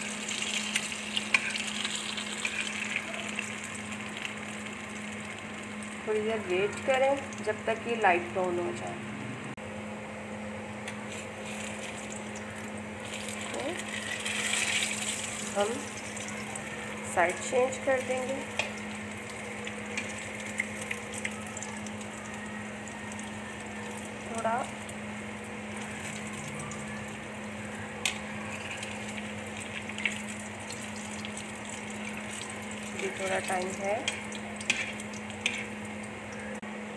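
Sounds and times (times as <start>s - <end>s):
bread sizzling in hot oil: 0.0s - 8.5s, 11.0s - 36.6s
steady low hum: 0.0s - 36.9s.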